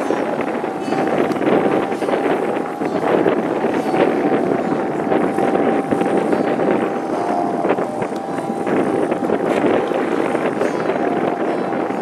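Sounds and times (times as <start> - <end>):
outboard motor whine: 0.0 - 12.0
wind noise on microphone: 0.0 - 12.0.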